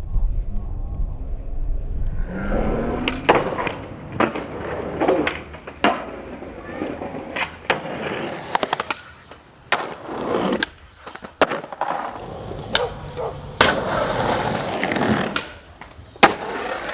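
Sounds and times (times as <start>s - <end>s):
skateboard wheels rolling on concrete: 2.2s - 16.9s
skateboard clacks: 3.0s - 16.9s.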